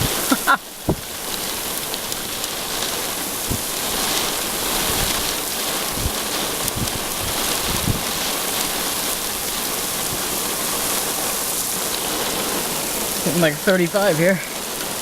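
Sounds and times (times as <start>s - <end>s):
heavy rain on a car: 0.0s - 15.0s.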